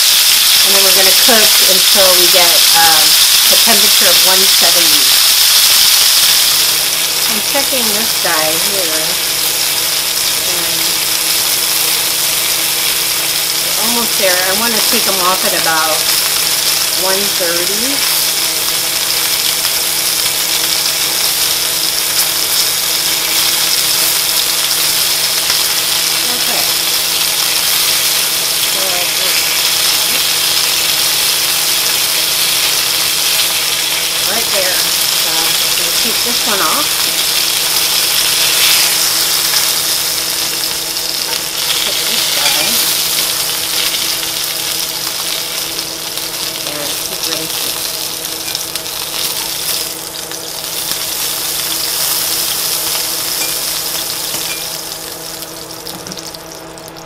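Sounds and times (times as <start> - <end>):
meat sizzling in a skillet: 0.0 - 57.0
steady low hum: 0.0 - 57.0.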